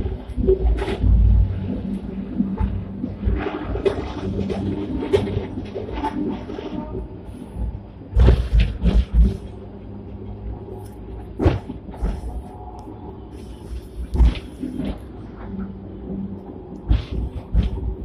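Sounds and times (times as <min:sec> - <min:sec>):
tram rumbling on track: 0:00.0 - 0:18.0.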